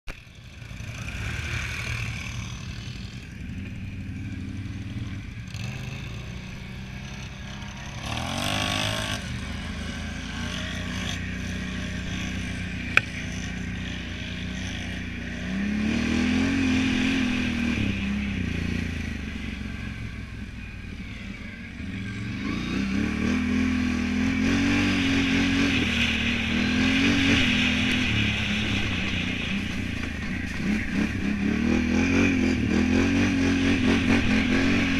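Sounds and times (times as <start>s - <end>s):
atv engine revving: 0.1s - 34.9s.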